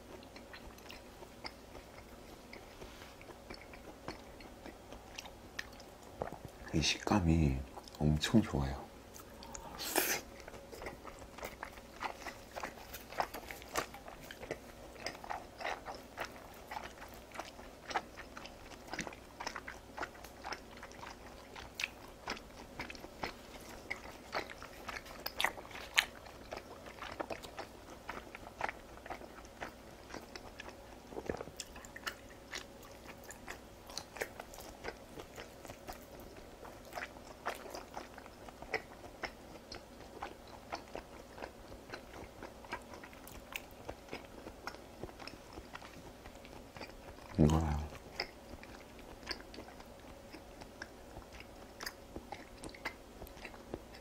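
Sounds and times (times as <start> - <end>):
person chewing: 0.0 - 6.7, 9.1 - 54.0.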